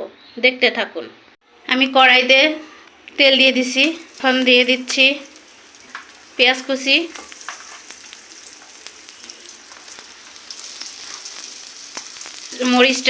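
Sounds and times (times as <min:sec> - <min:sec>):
onion sizzling in hot oil: 0:01.9 - 0:13.0.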